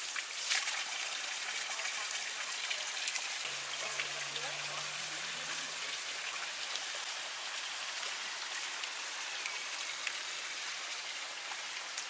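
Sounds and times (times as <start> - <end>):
water drips: 0.0 - 12.0
water running and splashing: 0.0 - 12.0.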